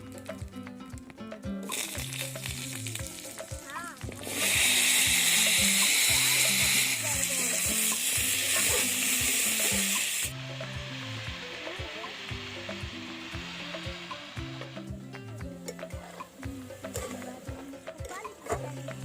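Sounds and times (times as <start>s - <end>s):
simple melody with steady beat: 0.0s - 19.0s
food sizzling in hot oil: 1.6s - 19.0s.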